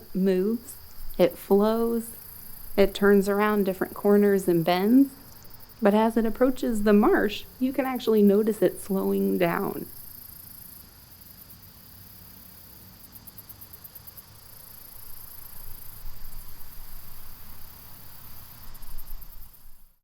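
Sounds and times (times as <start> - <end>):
insects trilling: 0.0 - 19.8
stream hiss: 0.0 - 20.0.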